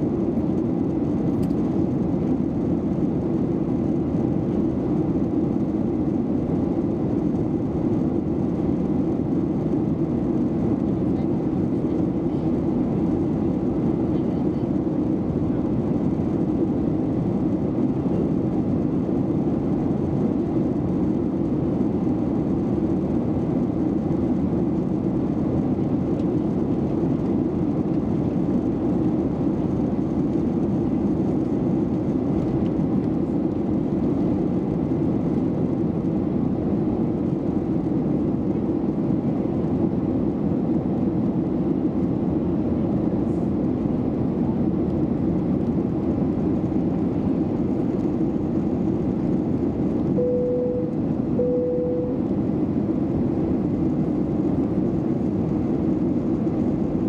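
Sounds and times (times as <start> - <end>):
airliner cabin engine rush: 0.0 - 57.0.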